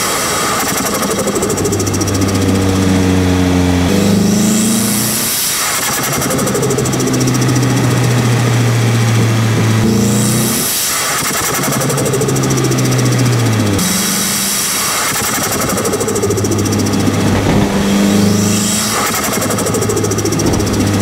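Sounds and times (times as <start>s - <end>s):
car engine driving: 0.0s - 21.0s.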